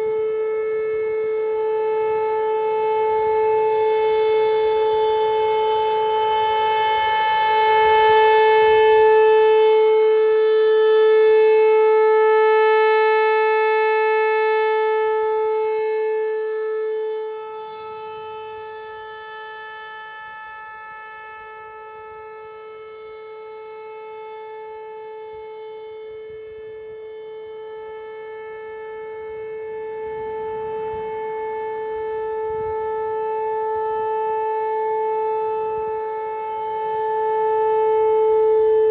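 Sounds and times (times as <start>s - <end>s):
outdoor warning siren steady tone: 0.0s - 38.9s.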